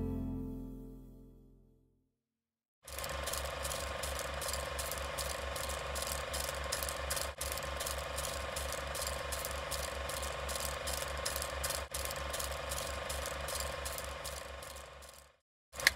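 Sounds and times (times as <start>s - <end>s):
film projector clattering: 2.9s - 15.9s.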